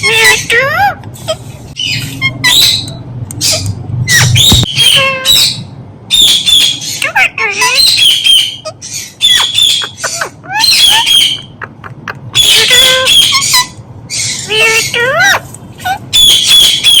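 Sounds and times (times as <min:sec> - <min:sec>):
parrot screeching: 0:00.0 - 0:11.6, 0:12.2 - 0:17.0.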